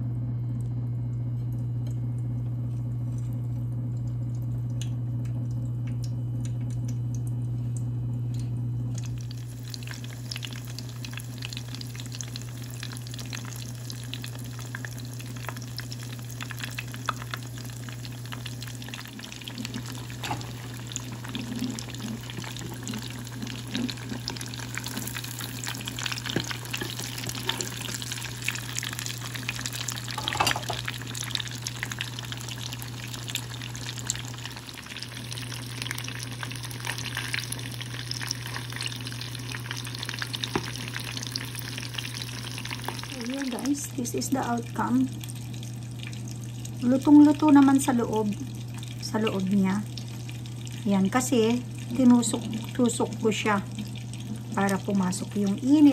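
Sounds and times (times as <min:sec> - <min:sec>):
steady low hum: 0:00.0 - 0:55.9
fish deep-frying in oil: 0:04.3 - 0:55.9.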